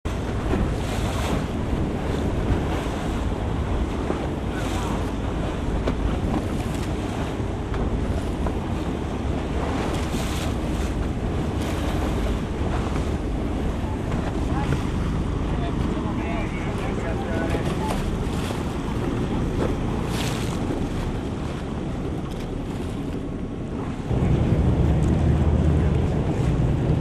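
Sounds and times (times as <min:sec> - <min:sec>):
water washing against hull: 0:00.0 - 0:27.0
wind buffeting microphone: 0:00.1 - 0:27.0.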